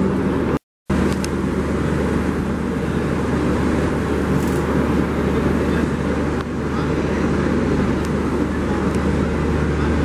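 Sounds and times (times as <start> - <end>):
low hum: 0.0 - 10.0
low rumbling: 0.0 - 10.0.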